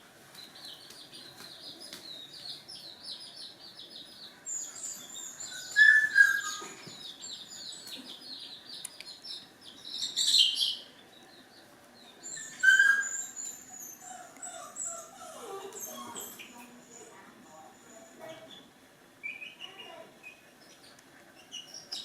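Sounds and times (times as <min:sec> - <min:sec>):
birds chirping: 0:00.3 - 0:22.0.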